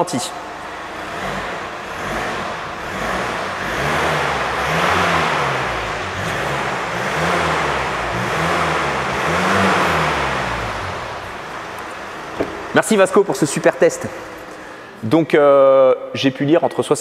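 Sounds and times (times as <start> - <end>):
diesel engine revving: 0.0 - 15.1.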